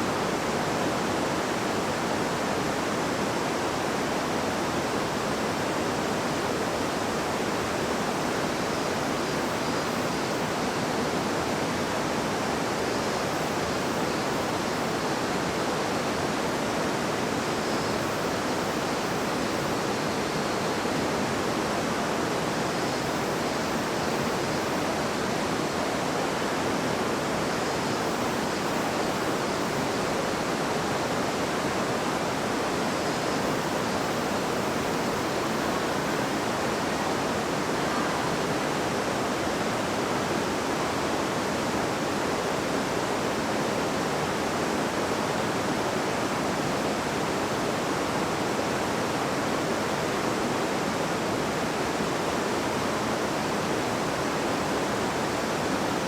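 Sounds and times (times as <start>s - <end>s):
river babbling: 0.1s - 56.0s.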